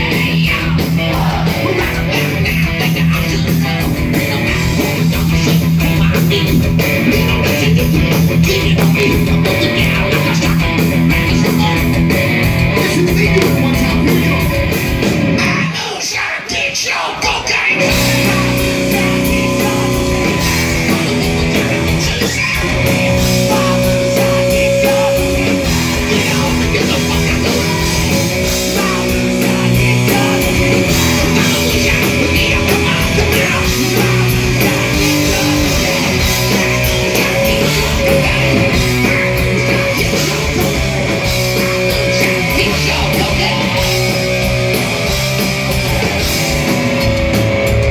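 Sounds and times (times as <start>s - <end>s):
person singing: 0.0s - 11.9s, 12.7s - 14.6s, 15.4s - 44.1s
bass guitar: 0.0s - 15.8s, 17.5s - 47.9s
distorted electric guitars: 0.0s - 47.9s
drums: 0.0s - 47.9s.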